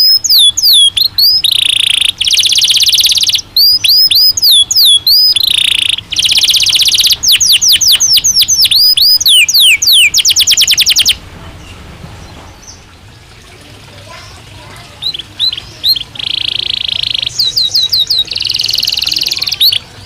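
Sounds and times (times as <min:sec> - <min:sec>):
canary singing trills: 0:00.0 - 0:13.1, 0:14.0 - 0:20.0.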